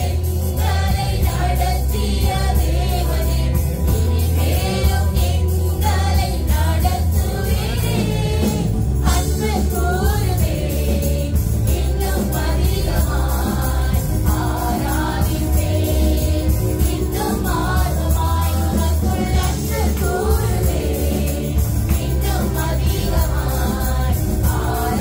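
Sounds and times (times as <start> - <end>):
live band: 0.0 - 25.0
steady drum beat: 0.0 - 25.0
strong bass: 0.0 - 25.0
voices singing: 0.0 - 25.0.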